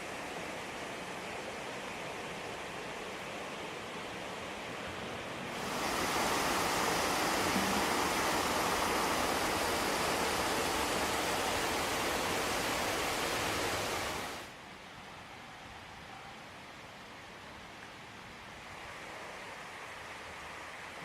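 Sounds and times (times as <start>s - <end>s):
flowing water rushing: 0.0s - 14.7s, 17.7s - 21.0s.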